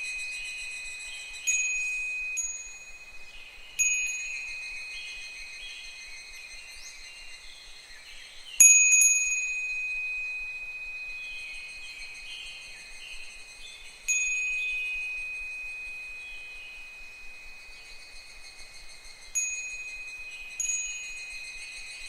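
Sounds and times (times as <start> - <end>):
wind bell ringing: 0.0 - 6.2, 8.6 - 18.5, 19.2 - 22.0
cicadas calling: 0.0 - 22.0.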